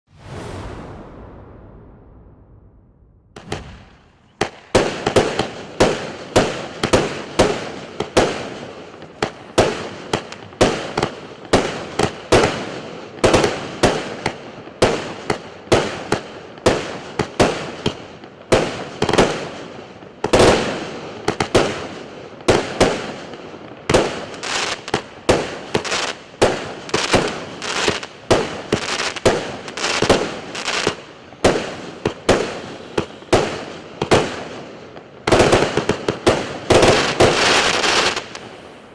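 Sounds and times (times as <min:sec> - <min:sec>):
firework bangs: 0:00.1 - 0:38.9.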